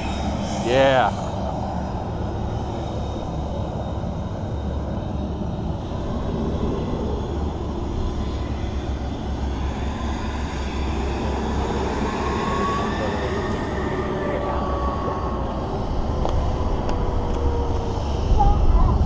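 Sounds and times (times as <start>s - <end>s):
low engine rumble: 0.0s - 19.0s
turbine engines whining: 0.0s - 19.0s.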